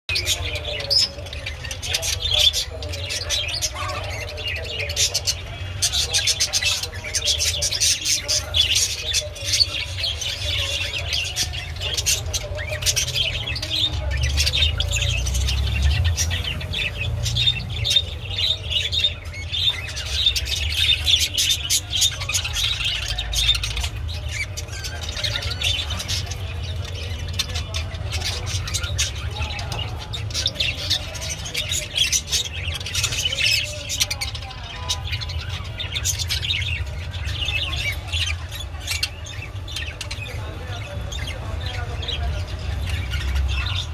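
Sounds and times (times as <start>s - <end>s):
budgerigar warbling and chattering: 0.1s - 43.9s.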